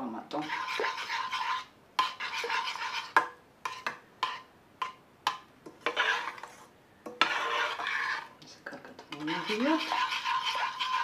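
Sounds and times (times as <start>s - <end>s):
spoon stirring thick soup: 0.1s - 11.0s.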